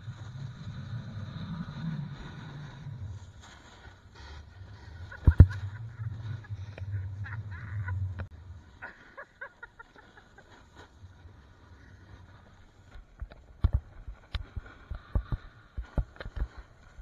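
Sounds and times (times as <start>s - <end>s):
scrapes on packed snow: 0.0s - 7.1s, 8.7s - 17.0s.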